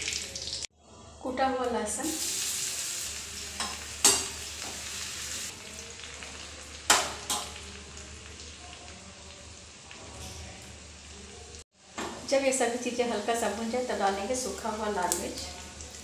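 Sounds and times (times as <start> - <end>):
spices sizzling in hot ghee: 0.0 - 0.7, 1.7 - 16.0.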